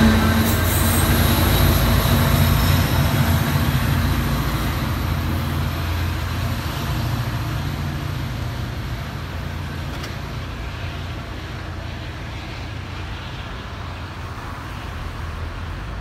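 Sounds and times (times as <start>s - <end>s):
diesel locomotive engine rumble: 0.0s - 16.0s
train wheels on rails: 0.0s - 16.0s.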